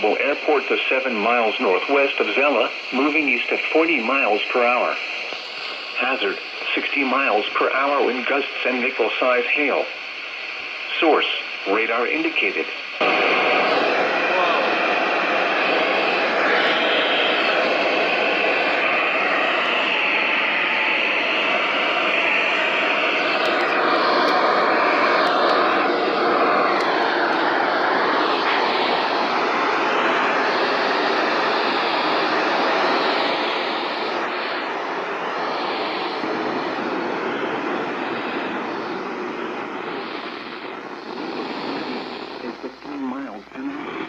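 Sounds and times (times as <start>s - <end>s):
radio static hiss: 0.0s - 44.0s.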